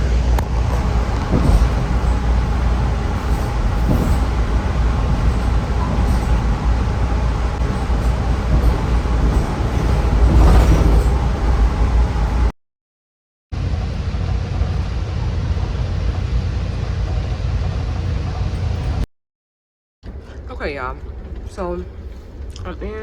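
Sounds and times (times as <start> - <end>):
passenger train rumble: 0.0 - 12.5, 13.5 - 19.0, 20.0 - 23.0.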